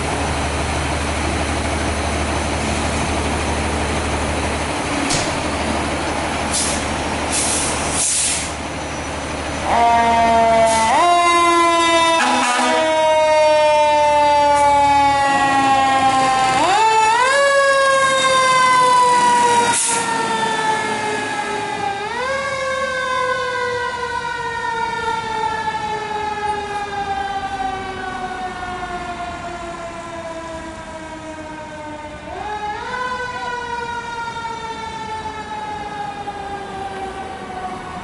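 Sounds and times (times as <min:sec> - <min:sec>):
fire engine siren wailing: 0:00.0 - 0:38.0.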